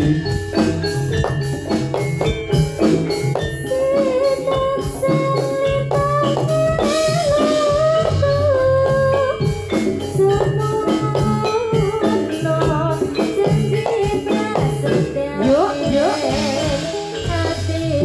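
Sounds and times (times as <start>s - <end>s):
sharp percussion strikes: 0.0s - 18.0s
struck metallophone notes: 0.0s - 18.0s.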